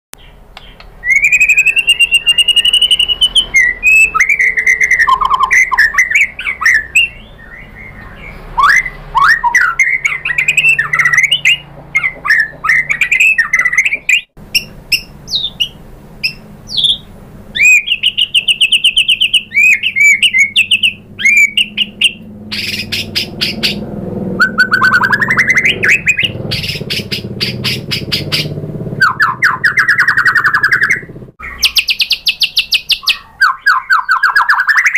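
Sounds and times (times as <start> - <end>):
songbird singing whistled phrases: 0.2 - 23.8, 24.4 - 34.9.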